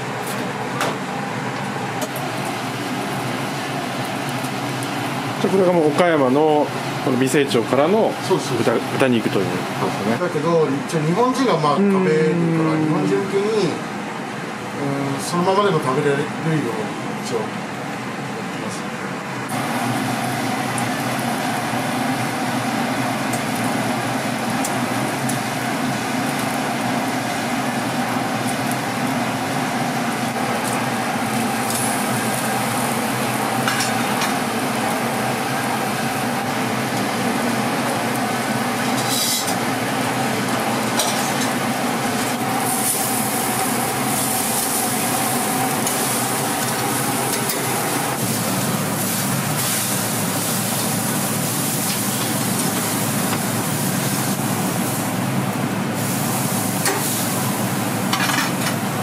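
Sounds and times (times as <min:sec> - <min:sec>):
meat sizzling on a grill: 0:01.8 - 0:10.6, 0:19.5 - 0:59.0.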